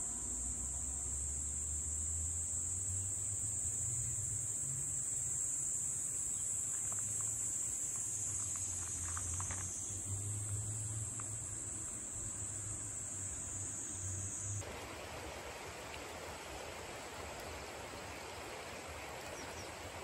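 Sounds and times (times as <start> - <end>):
chorus of summer insects: 0.0 - 20.0.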